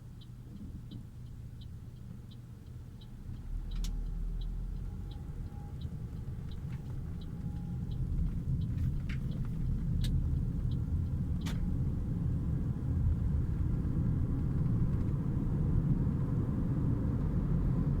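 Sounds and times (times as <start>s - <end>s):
car engine and exhaust rumbling: 0.0s - 18.0s.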